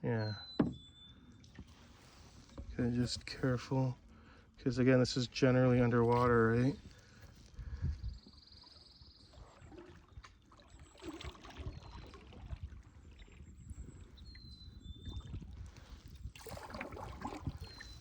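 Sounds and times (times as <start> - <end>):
water sloshing around canoe: 0.6 - 18.0.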